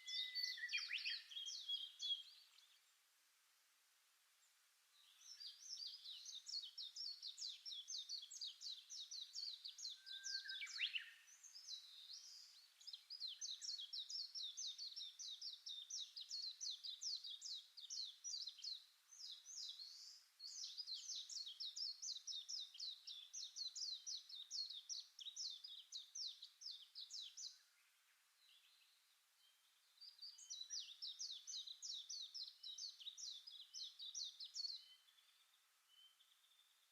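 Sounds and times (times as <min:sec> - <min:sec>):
songbird chirping: 0:00.0 - 0:36.9.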